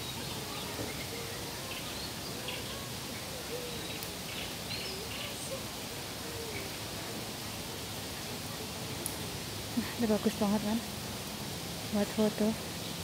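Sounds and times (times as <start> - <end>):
faint bird calls: 0.0 - 10.9
steady background hiss: 0.0 - 13.0.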